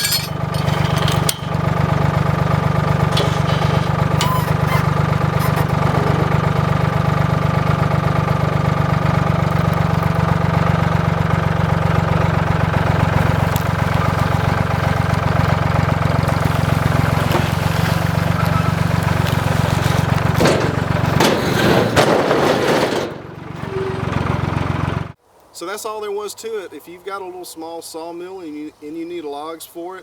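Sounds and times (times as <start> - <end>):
engine running steadily: 0.0 - 25.2.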